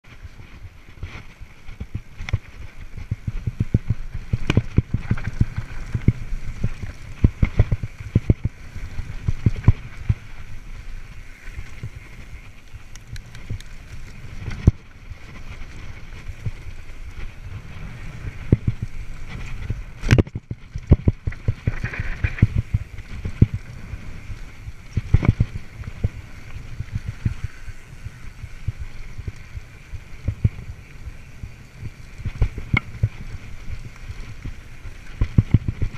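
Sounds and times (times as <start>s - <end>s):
tyres rumbling over dirt: 0.1s - 35.9s.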